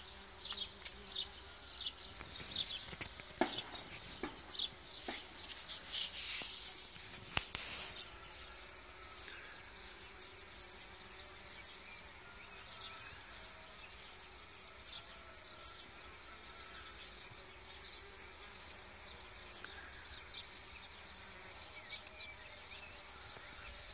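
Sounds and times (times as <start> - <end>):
bees buzzing: 0.0 - 23.9
rustle: 0.0 - 23.9.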